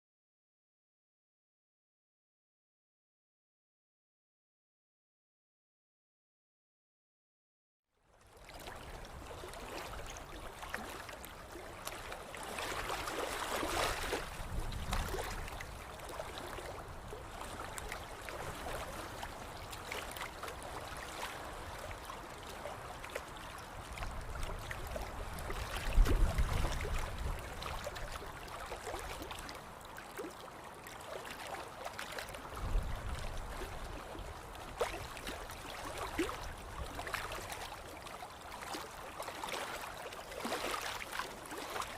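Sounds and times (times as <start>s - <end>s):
water lapping and trickling: 8.0s - 41.9s.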